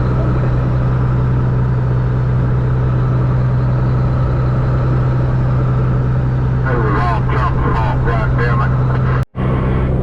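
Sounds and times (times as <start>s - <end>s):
road noise: 0.0s - 10.0s
truck engine drone: 0.0s - 10.0s.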